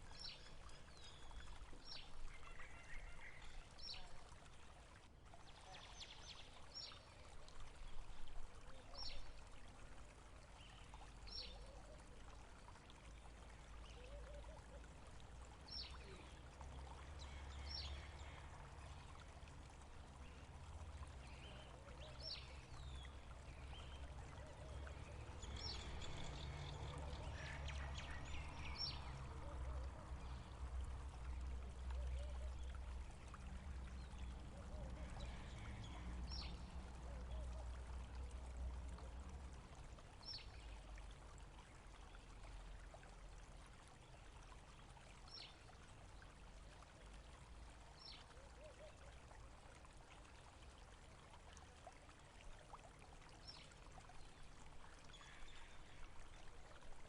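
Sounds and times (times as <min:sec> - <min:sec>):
faint running water: 0:00.0 - 0:57.0.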